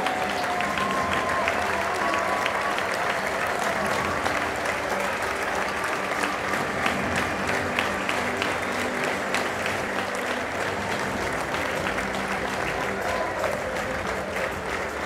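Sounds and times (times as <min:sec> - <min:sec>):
stadium crowd applauding: 0:00.0 - 0:15.0.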